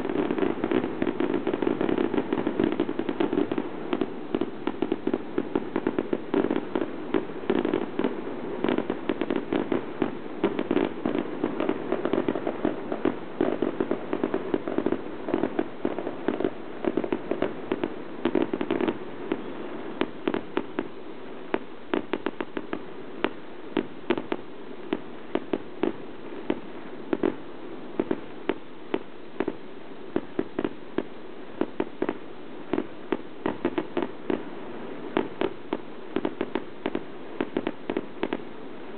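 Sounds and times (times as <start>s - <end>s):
fireworks bangs and crackles: 0.0s - 38.9s
steady background hiss: 0.0s - 38.9s.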